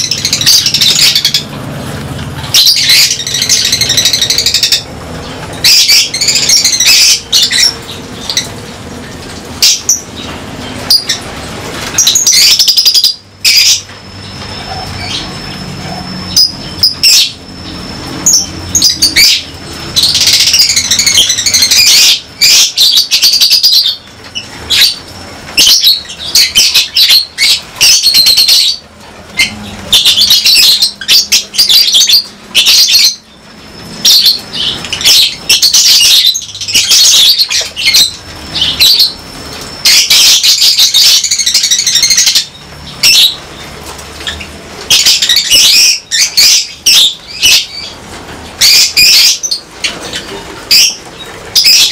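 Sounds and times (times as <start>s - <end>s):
lovebirds chattering: 0.0s - 51.9s.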